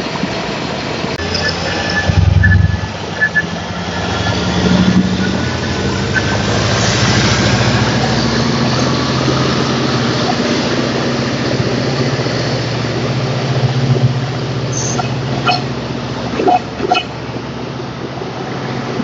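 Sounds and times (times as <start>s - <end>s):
rushing noise: 0.0s - 19.0s
train engine hum: 0.0s - 19.0s.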